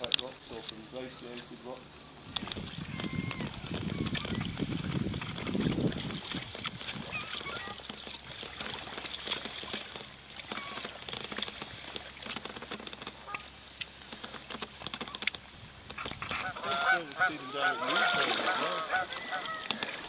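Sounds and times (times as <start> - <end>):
distant bird calls: 0.0 - 20.0
water splashing off paddle blades: 0.0 - 20.0.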